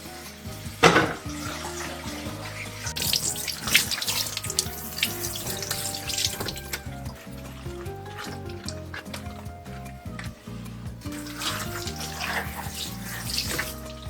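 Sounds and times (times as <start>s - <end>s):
tap water splashing in sink: 0.0s - 10.4s, 11.0s - 14.0s
soft background music: 0.0s - 14.0s.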